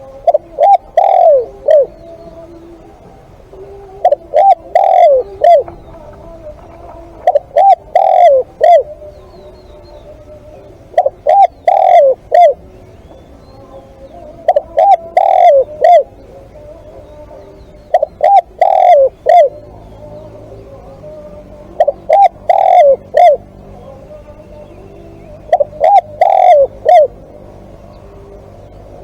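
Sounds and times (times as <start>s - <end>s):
dove cooing: 0.0s - 29.0s.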